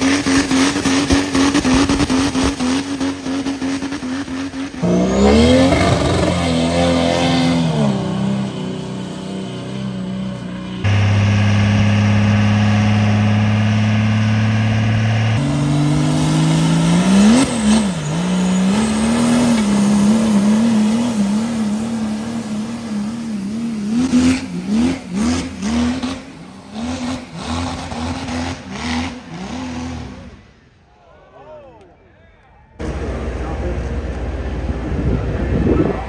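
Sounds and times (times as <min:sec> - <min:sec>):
diesel truck engine revving: 0:00.0 - 0:30.6.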